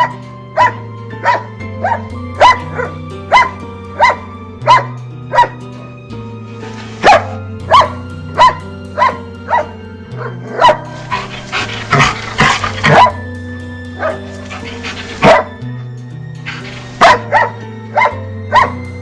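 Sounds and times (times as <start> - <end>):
dog barking: 0.0 - 5.6, 7.0 - 13.2, 14.0 - 15.6, 16.5 - 18.8
background music with bass line: 0.0 - 19.0.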